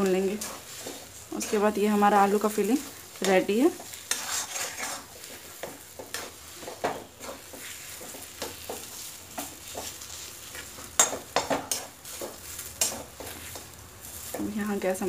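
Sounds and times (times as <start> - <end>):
light frying sizzle: 0.0 - 15.0
metal spatula scraping pan: 0.2 - 13.7.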